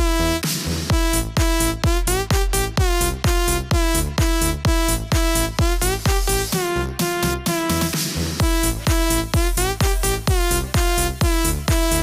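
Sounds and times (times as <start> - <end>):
electronic dance music: 0.0 - 12.0
steady kick drum: 0.0 - 12.0.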